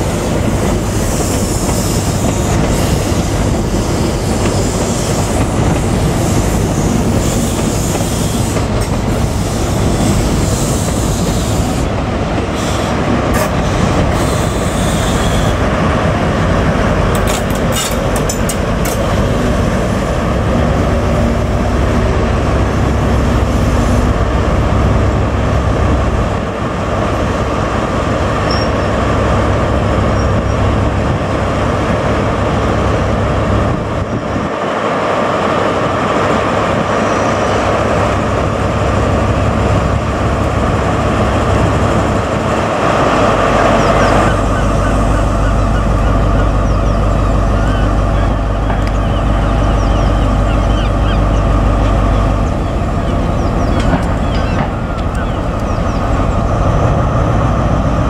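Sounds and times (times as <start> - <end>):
diesel train running: 0.0 - 58.0.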